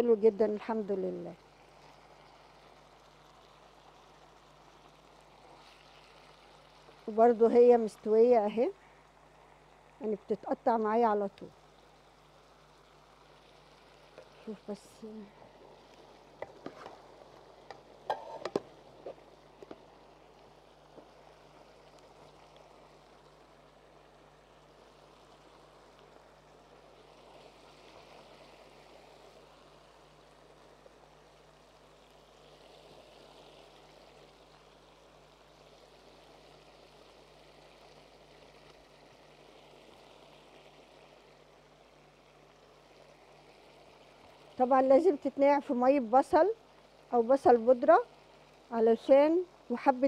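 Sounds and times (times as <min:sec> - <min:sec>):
pots simmering on stove: 0:01.3 - 0:50.0.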